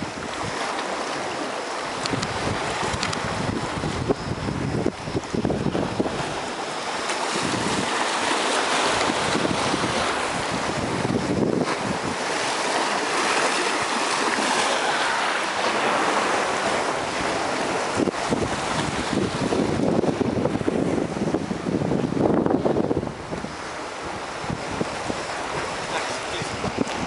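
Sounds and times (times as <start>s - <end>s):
surf washing over rocks: 0.0s - 27.0s.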